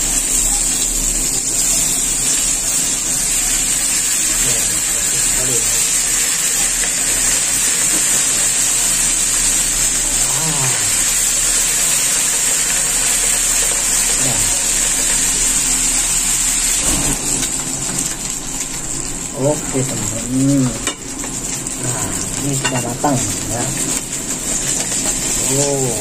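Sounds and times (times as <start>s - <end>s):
oil sizzling around frying fish: 0.0s - 26.0s.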